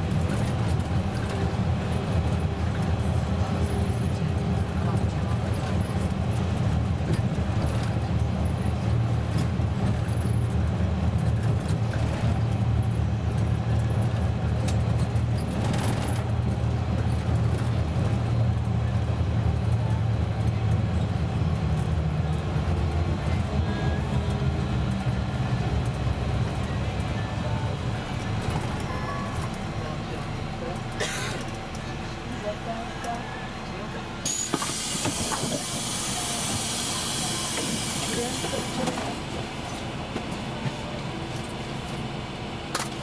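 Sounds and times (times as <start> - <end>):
bus engine and road drone: 0.0 - 43.0.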